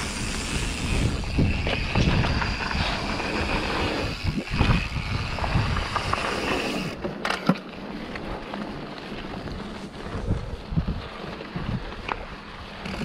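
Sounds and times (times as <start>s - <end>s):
bike rattling over bumps: 0.0s - 13.0s
bike tyres rolling on gravel: 0.0s - 13.0s
wind rumbling on microphone: 0.0s - 13.0s.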